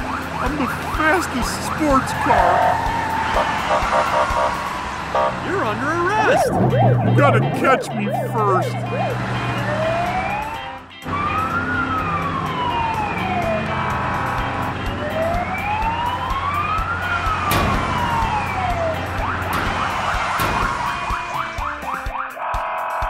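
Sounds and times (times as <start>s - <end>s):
police siren wailing: 0.0s - 23.0s
siren chirps: 0.0s - 23.0s
engine drone: 1.7s - 22.0s.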